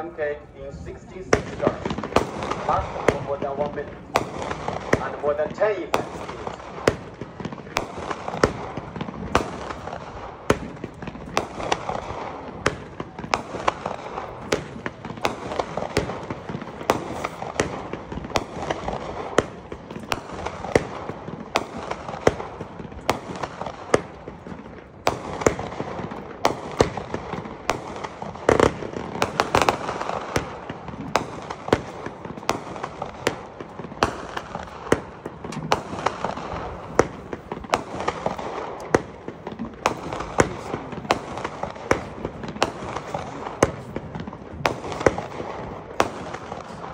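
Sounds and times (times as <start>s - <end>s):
firework cake firing reports: 0.0s - 46.9s
loud firework bangs: 0.0s - 46.9s.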